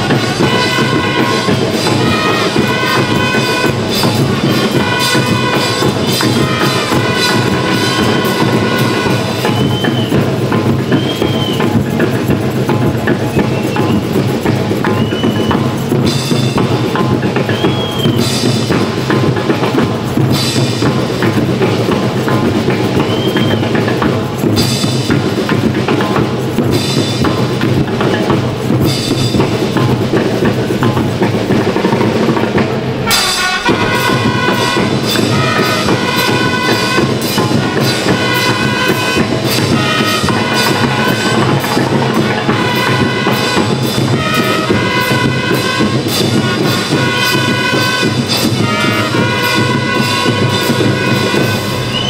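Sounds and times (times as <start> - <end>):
bell lyres ringing melody: 0.0 - 32.3, 33.1 - 52.0
cymbal crashes: 0.0 - 52.0
snare and bass drums marching: 0.0 - 52.0.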